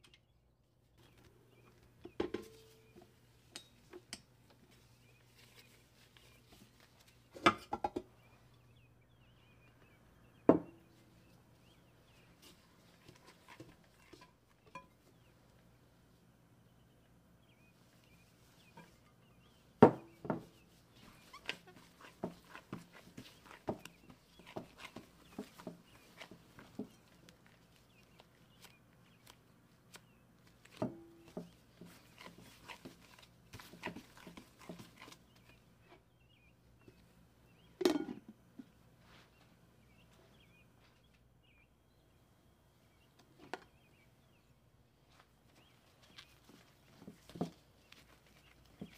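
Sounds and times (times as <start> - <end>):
faint birds chirping: 0.0 - 48.9.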